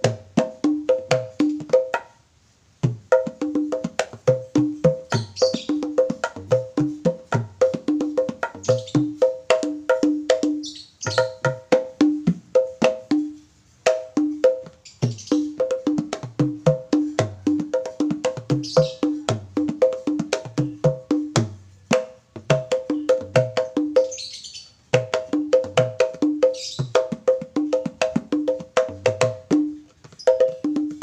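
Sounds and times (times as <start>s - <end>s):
hand drum struck by hand: 0.0s - 2.1s, 2.8s - 24.1s, 24.9s - 31.0s
small lap drum: 0.0s - 2.1s, 2.8s - 24.1s, 24.9s - 31.0s.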